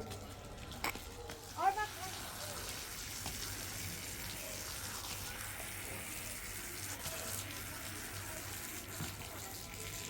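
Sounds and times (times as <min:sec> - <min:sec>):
water running from a tap: 0:01.4 - 0:10.0.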